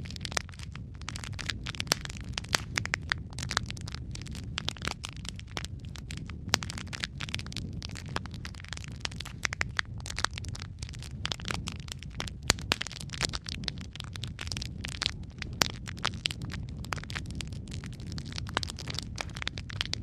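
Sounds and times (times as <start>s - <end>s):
low rumble of burning: 0.0s - 20.0s
wood fire crackling and popping: 0.0s - 20.0s.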